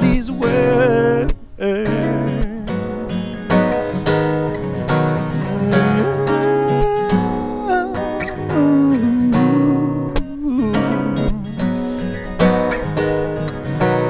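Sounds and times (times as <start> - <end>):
person singing slow song: 0.0 - 4.3, 5.0 - 12.9
acoustic guitar strumming: 0.0 - 14.0.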